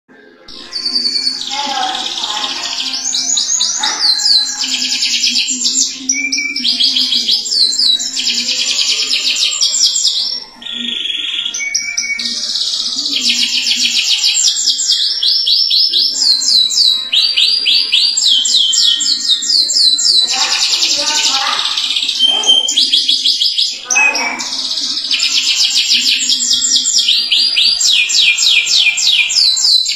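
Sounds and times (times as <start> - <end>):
canary singing trills: 0.1 - 29.9.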